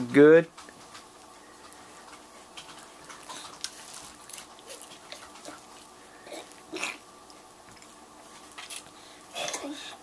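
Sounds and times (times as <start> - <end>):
toddlers eating clicks and smacks: 0.0 - 10.0.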